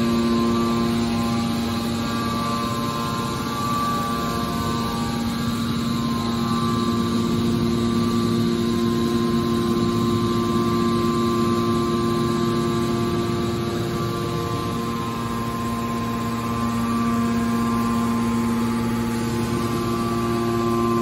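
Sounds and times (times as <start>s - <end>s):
hydraulic pump and motor humming: 0.0s - 21.0s.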